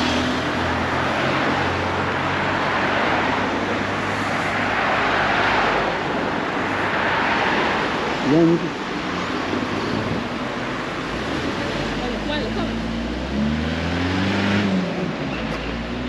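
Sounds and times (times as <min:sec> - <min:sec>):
passing traffic: 0:00.0 - 0:16.0.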